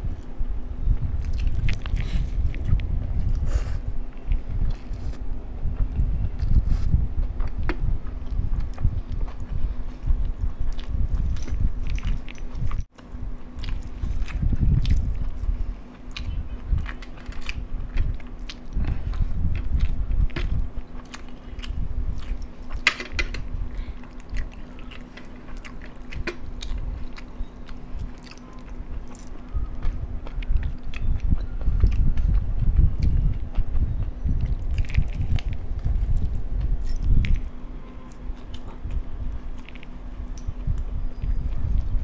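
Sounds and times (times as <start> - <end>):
close-miked chewing and crunching: 0.0 - 42.0
faint steady hum: 0.0 - 42.0.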